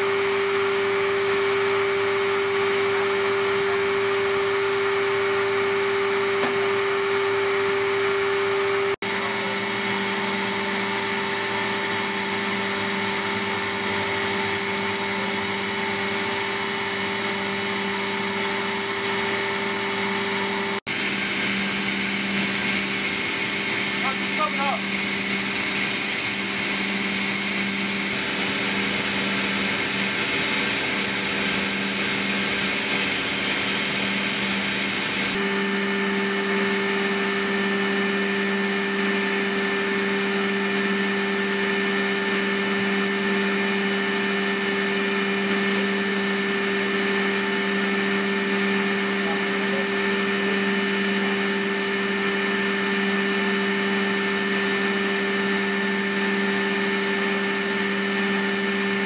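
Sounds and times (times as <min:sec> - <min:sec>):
aircraft engine drone in cabin: 0:00.0 - 0:59.0
thin high whine: 0:00.0 - 0:59.0.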